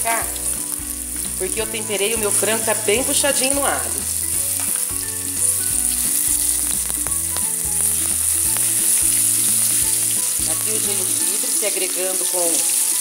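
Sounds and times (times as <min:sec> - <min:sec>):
ginger sizzling in oil: 0:00.0 - 0:13.0.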